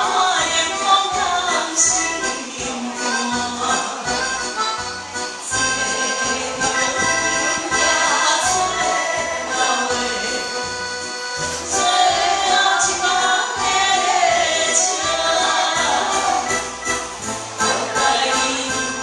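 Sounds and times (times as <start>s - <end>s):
woman singing into a microphone: 0.0s - 4.5s, 5.5s - 7.1s, 7.7s - 10.8s, 11.6s - 16.5s, 17.6s - 19.0s
recorded backing music: 0.0s - 19.0s.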